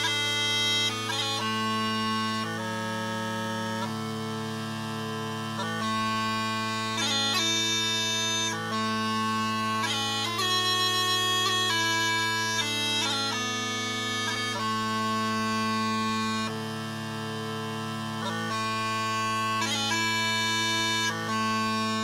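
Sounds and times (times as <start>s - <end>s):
smallpipes drone: 0.0s - 22.0s.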